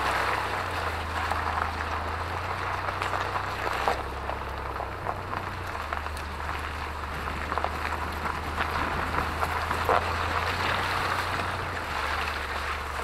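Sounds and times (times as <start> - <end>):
low rumble: 0.0 - 13.0
tyres crunching wet gravel: 0.0 - 13.0.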